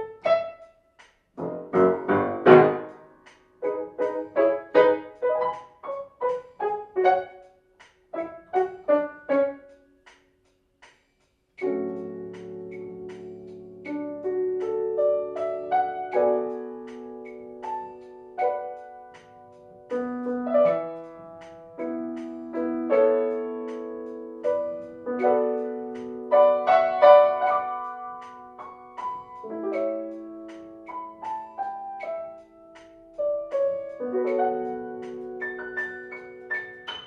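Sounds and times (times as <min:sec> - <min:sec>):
gentle piano music: 0:00.0 - 0:10.2, 0:11.6 - 0:37.0.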